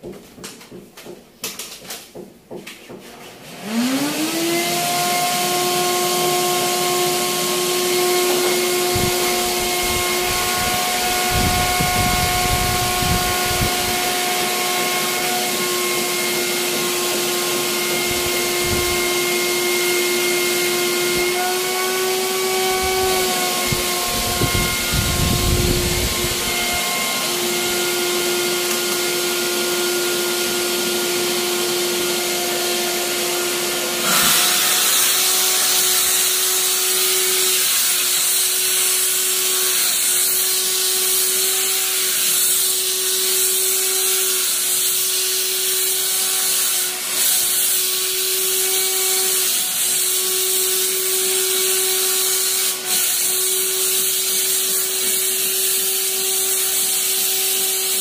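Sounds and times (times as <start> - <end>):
steam cleaner hissing: 3.6 - 58.0.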